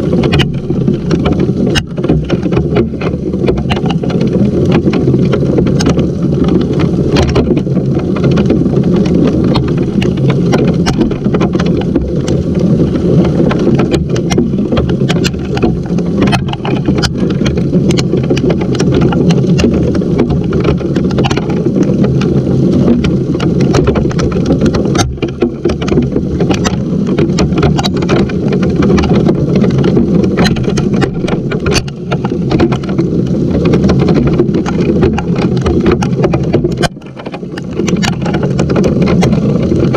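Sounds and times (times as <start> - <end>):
hailstones ticking: 0.0 - 39.9
heavy rain rushing: 0.0 - 39.9.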